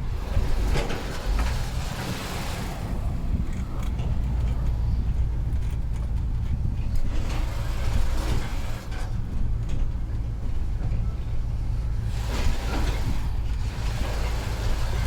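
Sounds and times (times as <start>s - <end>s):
road noise: 0.0s - 15.0s
truck engine drone: 0.0s - 15.0s.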